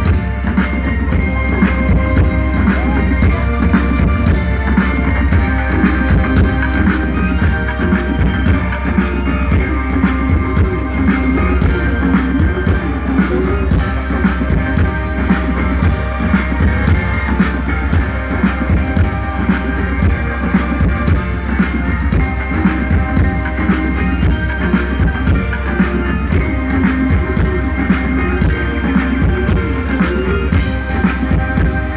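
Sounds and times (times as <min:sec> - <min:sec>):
bass: 0:00.0 - 0:31.9
drum kit beat: 0:00.0 - 0:31.9
guitar: 0:00.0 - 0:31.9.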